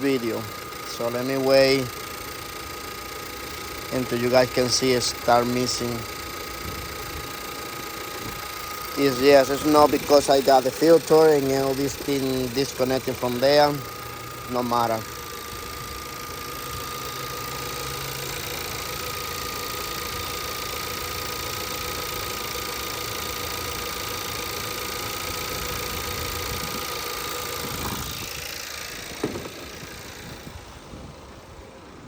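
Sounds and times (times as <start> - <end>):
car engine idling: 0.0 - 32.0
thin steady whine: 0.0 - 32.0.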